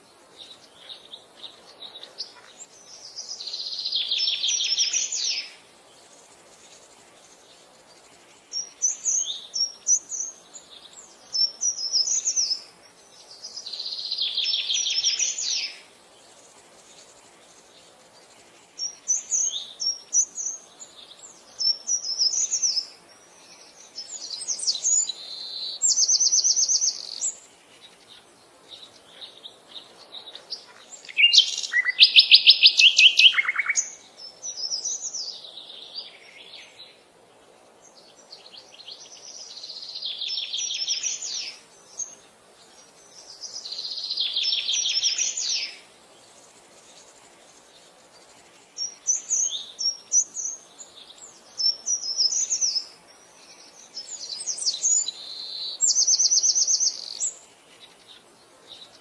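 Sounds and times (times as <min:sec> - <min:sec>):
bird chirps: 0:00.0 - 0:15.9, 0:18.2 - 0:37.0, 0:37.8 - 0:59.0
birds trilling song: 0:00.0 - 0:59.0.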